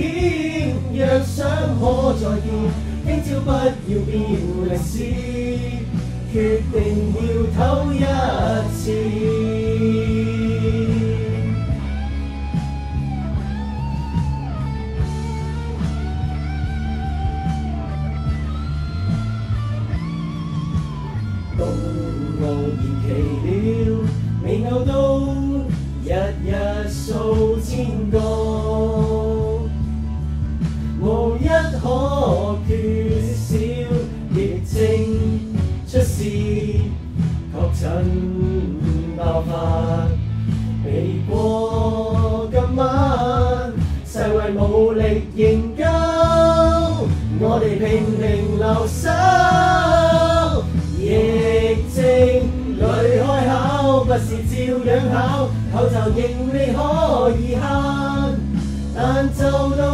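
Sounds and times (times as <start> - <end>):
group singing: 0.0 - 11.8, 21.6 - 29.7, 31.0 - 59.9
guitar and band accompaniment: 0.0 - 59.9.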